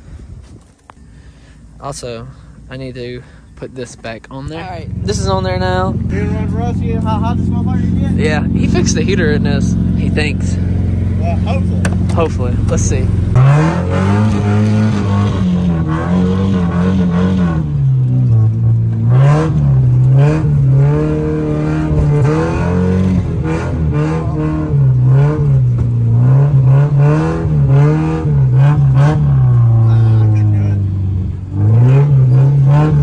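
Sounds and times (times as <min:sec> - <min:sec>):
car engine revving: 0:00.8 - 0:33.0.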